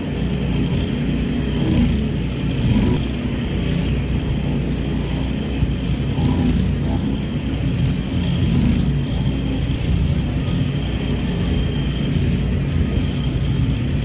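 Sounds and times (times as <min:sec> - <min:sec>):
engine droning under load: 0:00.0 - 0:14.0.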